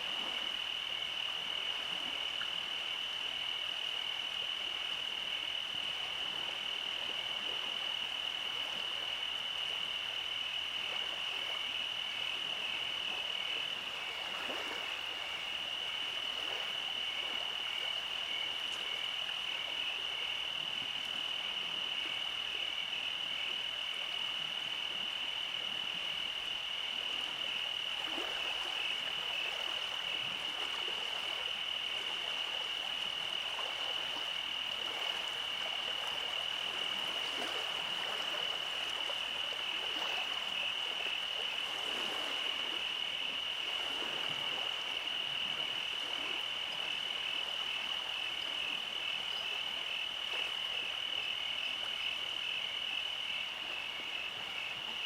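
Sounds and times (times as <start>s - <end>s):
frogs trilling: 0.0s - 55.0s.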